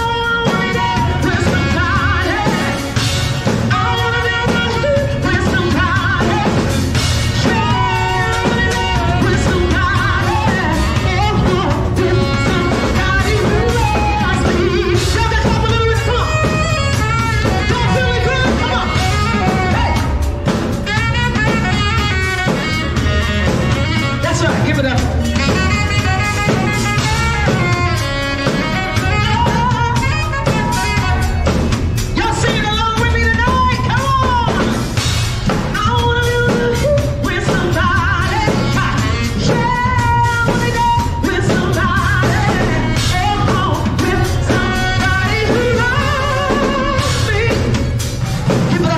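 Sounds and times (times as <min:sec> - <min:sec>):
drum kit beat: 0:00.0 - 0:48.9
live band music: 0:00.0 - 0:48.9
woman singing: 0:00.0 - 0:48.9.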